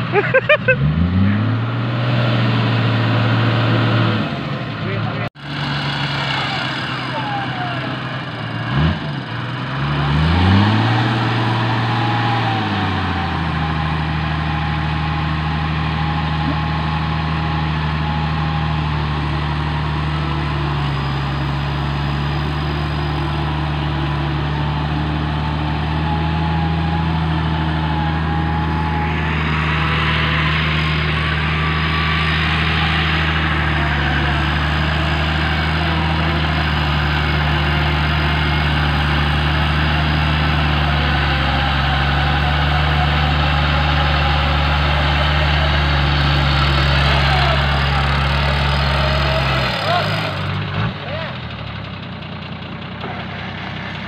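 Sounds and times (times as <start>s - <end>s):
engine revving: 0.0s - 52.1s.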